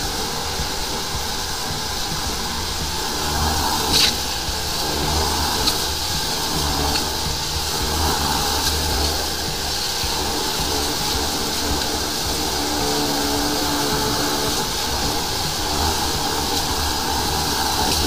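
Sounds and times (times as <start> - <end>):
motor and pump humming: 0.0 - 18.0
water jet hissing in drain: 0.0 - 18.0.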